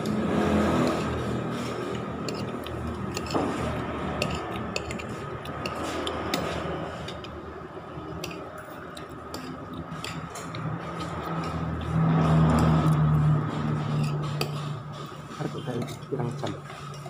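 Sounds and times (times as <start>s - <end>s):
person chewing: 0.9s - 7.4s, 8.0s - 15.2s.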